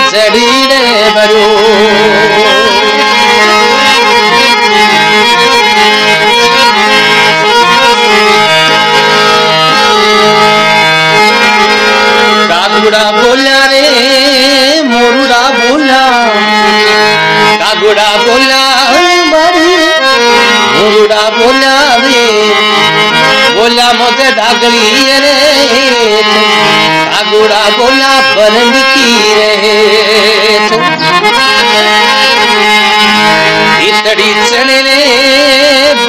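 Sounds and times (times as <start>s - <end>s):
harmonium playing: 0.0s - 36.0s.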